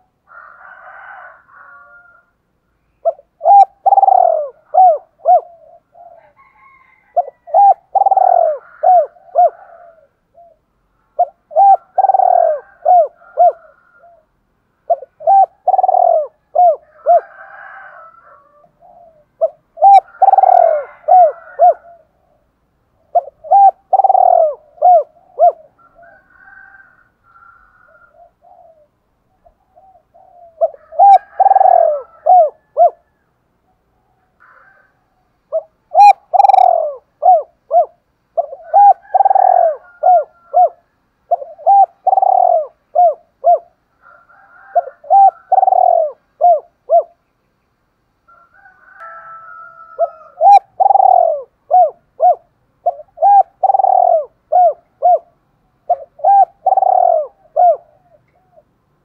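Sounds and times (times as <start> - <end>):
dove cooing: 0.0 - 2.3, 2.9 - 33.2, 34.0 - 47.2, 48.3 - 58.8.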